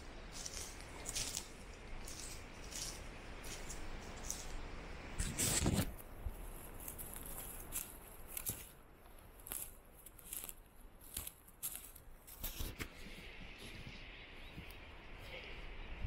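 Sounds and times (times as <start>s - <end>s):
crunching footsteps on a trail: 0.0s - 16.0s.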